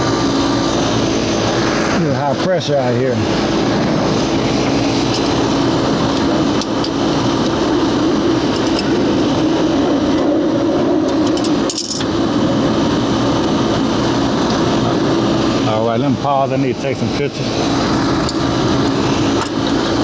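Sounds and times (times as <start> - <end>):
air conditioner unit humming: 0.0 - 20.0.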